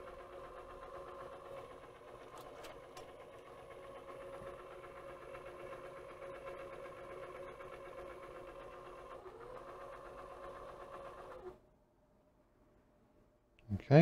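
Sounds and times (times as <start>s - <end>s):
motor humming: 0.0s - 11.6s.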